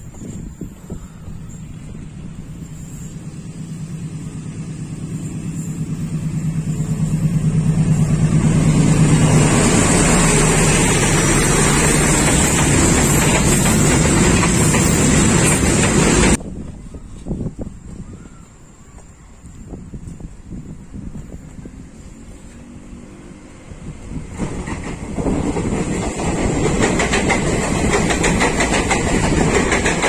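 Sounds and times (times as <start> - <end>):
locomotive engine drone: 0.0 - 30.0
wheels rumbling on rails: 0.0 - 30.0.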